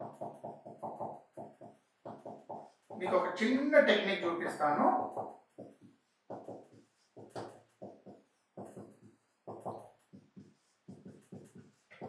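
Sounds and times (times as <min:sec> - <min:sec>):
marker writing on whiteboard: 0:00.0 - 0:03.8, 0:04.4 - 0:12.0.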